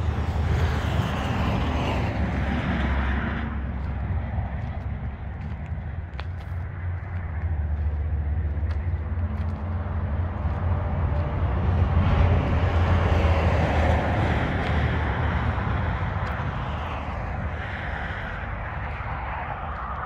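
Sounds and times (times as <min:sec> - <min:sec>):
vehicle passing with low rumble: 0:00.0 - 0:20.0.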